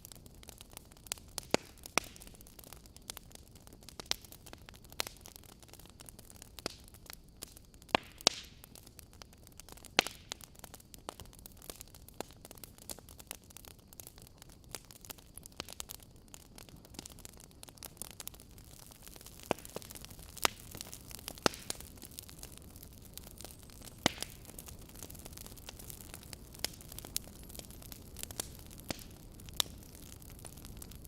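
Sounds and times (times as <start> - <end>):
faint steady hiss: 0.0 - 31.0
wood fire crackling: 0.0 - 31.0.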